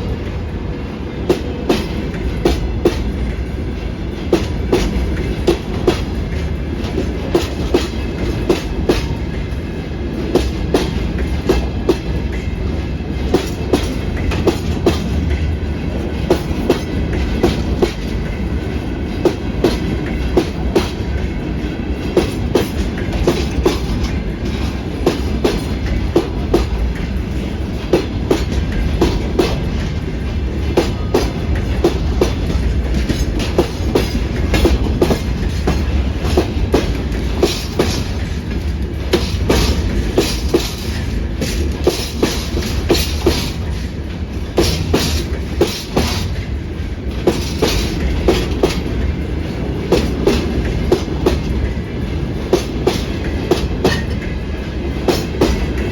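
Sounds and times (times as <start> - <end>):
freight train rumble: 0.0 - 55.9
wheels clacking over rail joints: 1.3 - 55.9.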